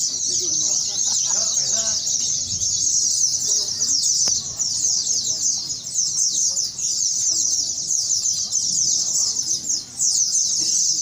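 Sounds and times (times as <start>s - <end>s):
chorus of birds chirping: 0.0s - 11.0s.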